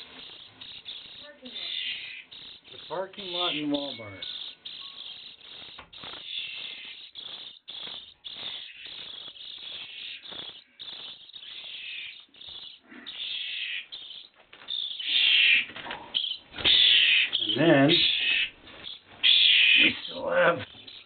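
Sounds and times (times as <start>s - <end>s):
baby birds begging chirps: 0.0s - 21.0s.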